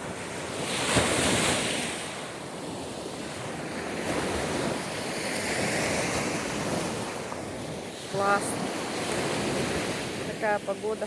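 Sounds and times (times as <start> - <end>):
sea waves washing ashore: 0.0 - 11.0
wind buffeting the microphone: 0.0 - 11.0.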